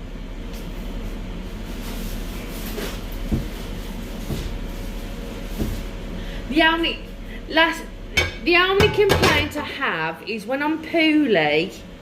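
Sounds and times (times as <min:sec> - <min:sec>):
kitchen background hum: 0:00.0 - 0:12.0.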